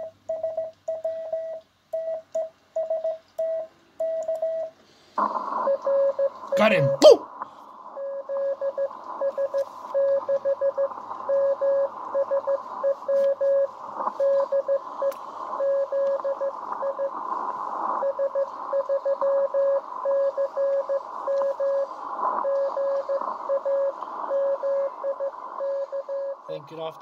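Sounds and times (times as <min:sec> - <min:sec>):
morse code beeps: 0:00.0 - 0:04.7, 0:05.7 - 0:07.0, 0:07.9 - 0:17.2, 0:18.0 - 0:26.6
radio band hiss: 0:04.9 - 0:27.0.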